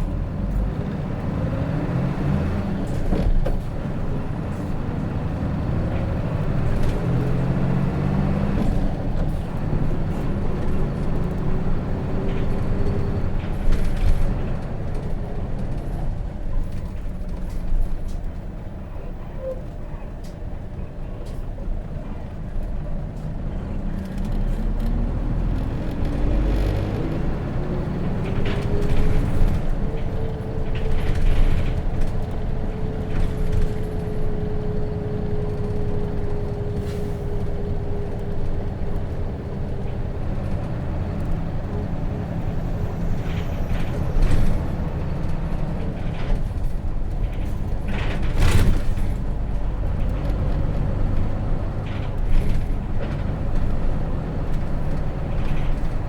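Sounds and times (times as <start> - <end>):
bus whine: 0.0 - 56.0
engine and road rumble: 0.0 - 56.0.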